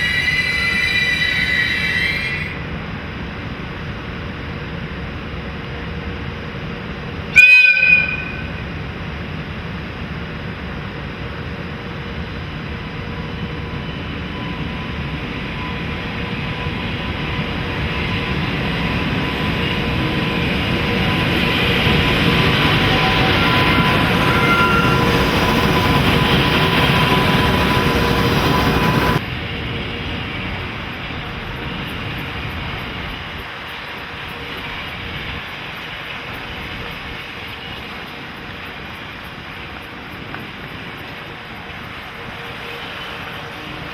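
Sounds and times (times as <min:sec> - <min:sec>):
electric locomotive humming: 0:00.0 - 0:43.9
train rumble: 0:00.0 - 0:43.9.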